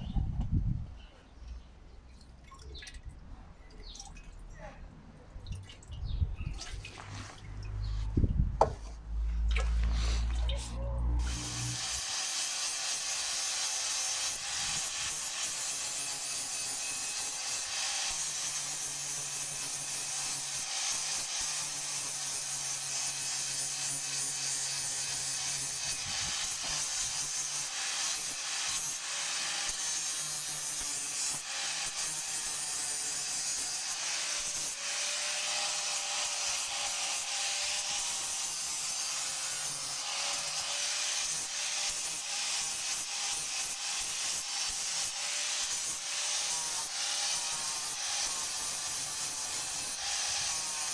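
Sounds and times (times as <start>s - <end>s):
angle grinder grinding steel: 6.8s - 50.9s.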